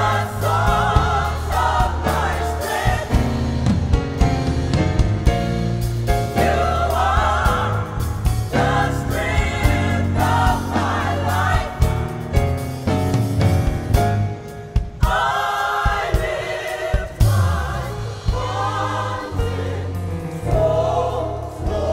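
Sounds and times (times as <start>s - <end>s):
bass line: 0.0s - 14.4s, 17.2s - 21.9s
drum beat: 0.0s - 19.7s
choir singing gospel music: 0.0s - 21.9s.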